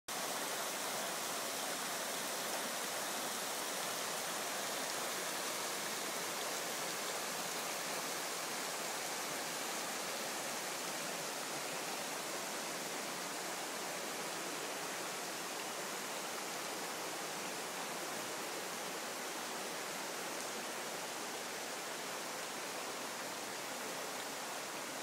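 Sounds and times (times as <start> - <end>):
river rushing over rocks: 0.1 - 25.0.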